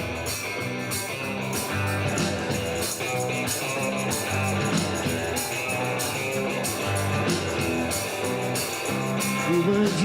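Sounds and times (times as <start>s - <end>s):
bass: 0.0s - 10.0s
electric guitar: 0.0s - 10.0s
steady drum beat: 0.0s - 10.0s.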